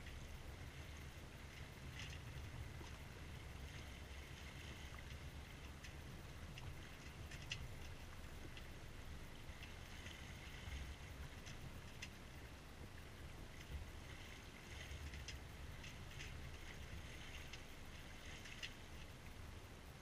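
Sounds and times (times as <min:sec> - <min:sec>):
water splashing along hull: 0:00.0 - 0:20.0.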